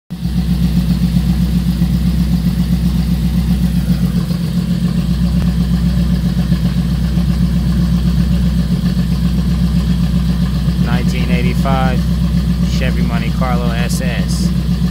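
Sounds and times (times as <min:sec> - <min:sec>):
engine idling loudly: 0:00.1 - 0:14.9.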